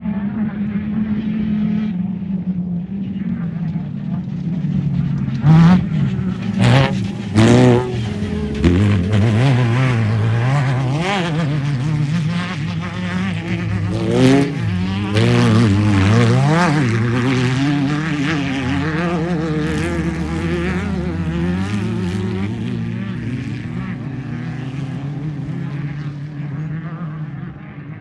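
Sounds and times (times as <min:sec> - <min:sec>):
race vehicle engines revving: 0:00.0 - 0:28.0.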